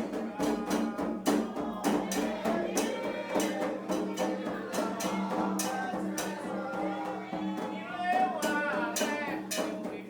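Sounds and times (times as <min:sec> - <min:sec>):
percussion strikes: 0:00.0 - 0:10.0.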